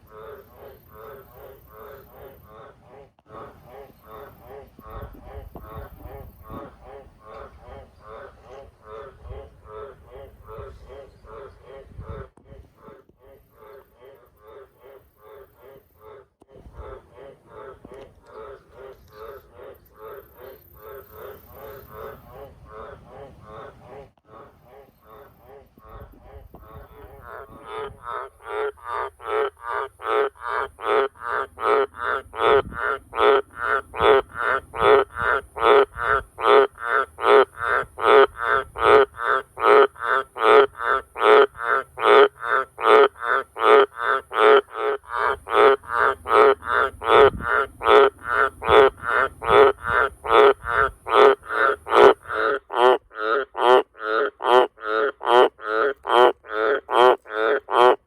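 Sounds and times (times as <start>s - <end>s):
frog rasping croaks: 0.0s - 58.0s.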